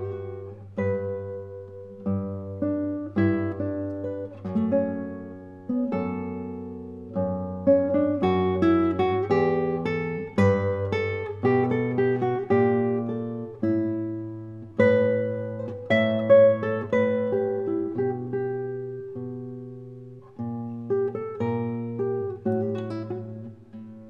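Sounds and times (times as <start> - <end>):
classical guitar playing: 0.0 - 24.0.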